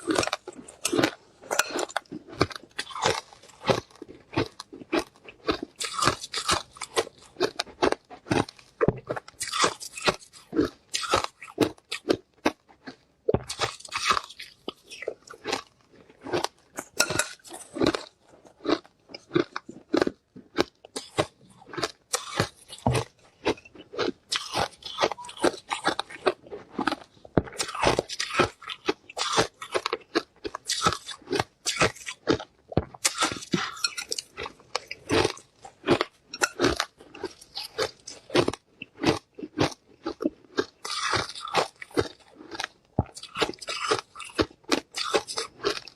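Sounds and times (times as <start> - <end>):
ice crunching when chewed: 0.0 - 45.9.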